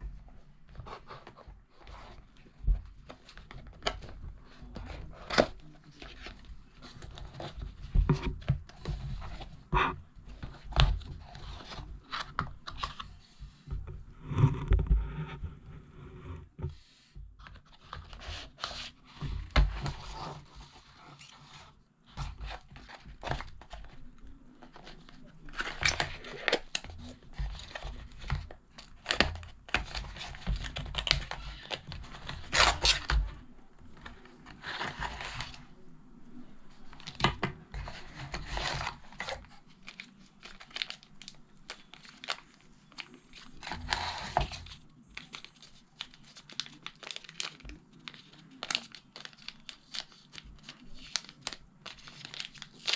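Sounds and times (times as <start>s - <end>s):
rustling and crinkling: 0.0s - 52.9s.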